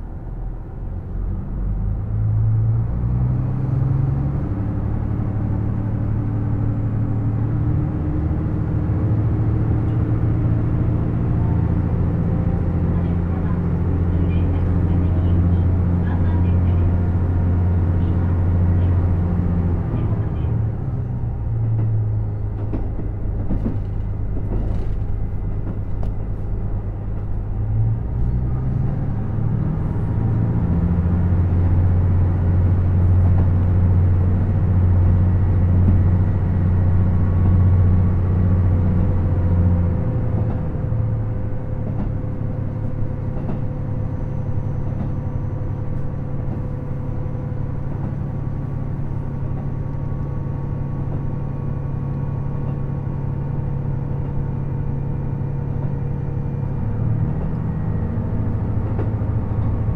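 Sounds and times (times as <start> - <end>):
diesel railcar engine drone: 0.0 - 59.9.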